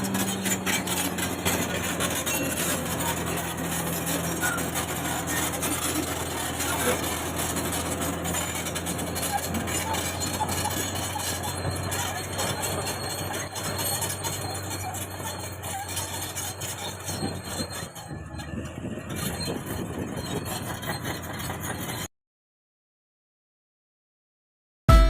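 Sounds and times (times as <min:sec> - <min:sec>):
heavy diesel machinery running: 0:00.0 - 0:22.1
short metallic squeals: 0:00.0 - 0:22.1.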